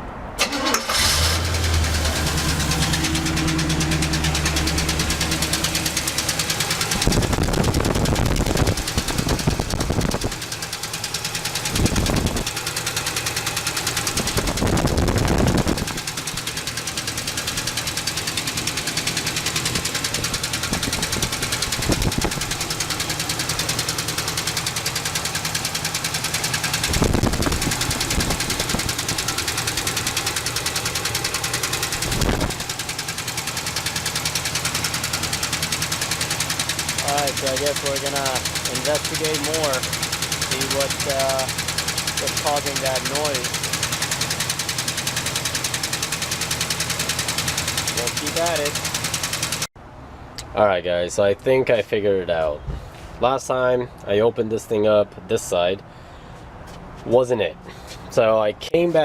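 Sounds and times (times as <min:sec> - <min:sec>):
engine running: 0:00.2 - 0:50.5.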